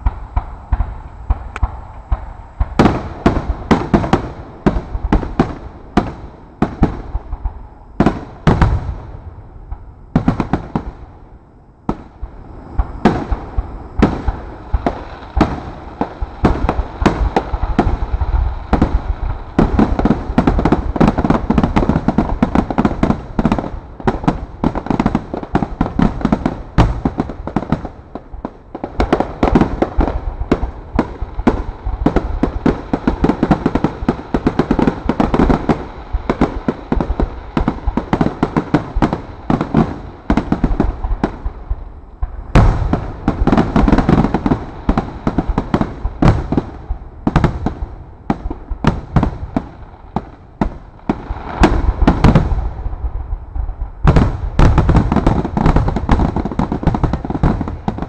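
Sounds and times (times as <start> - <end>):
fireworks bursting: 0.0 - 58.0.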